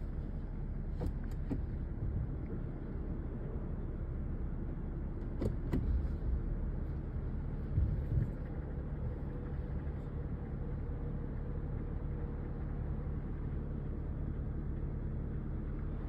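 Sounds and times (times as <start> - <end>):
car engine idling with tapping: 0.0 - 16.0.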